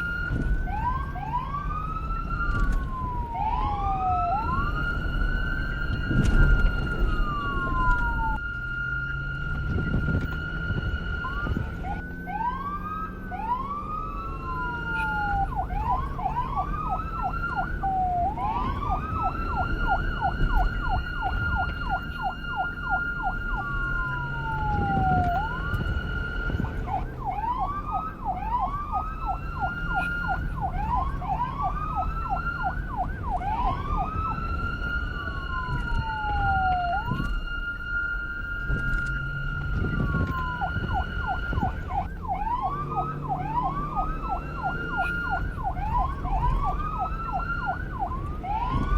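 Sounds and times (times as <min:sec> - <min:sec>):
police car siren: 0:00.0 - 0:48.9.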